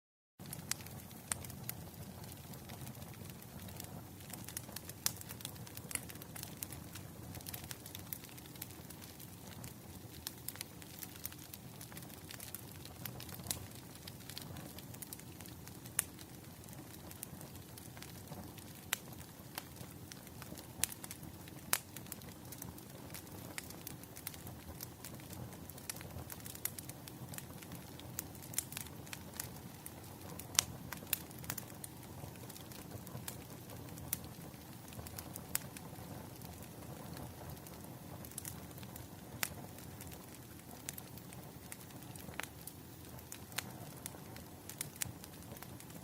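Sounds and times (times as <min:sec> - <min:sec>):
fire crackling and popping: 0:00.4 - 0:46.0
low rumble of burning logs: 0:00.4 - 0:46.0.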